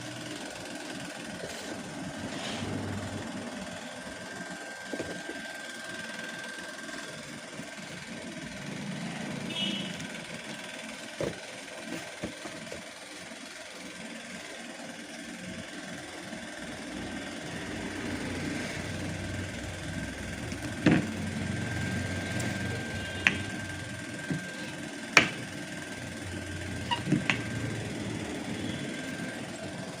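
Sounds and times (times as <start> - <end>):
thin steady whine: 0.0 - 30.0
washing machine motor humming: 0.0 - 30.0.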